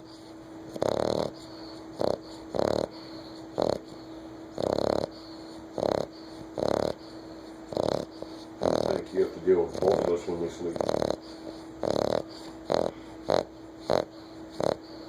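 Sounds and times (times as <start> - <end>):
puppy snoring: 0.0 - 15.0.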